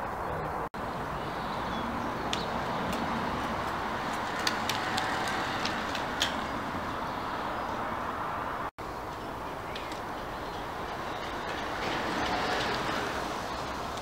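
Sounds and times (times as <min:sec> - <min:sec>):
outdoor background rush: 0:00.0 - 0:14.0.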